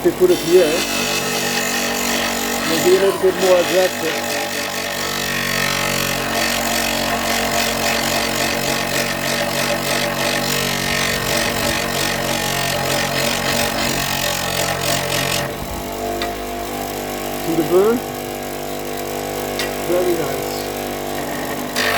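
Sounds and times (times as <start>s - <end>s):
electric sander grinding wood: 0.0s - 21.9s.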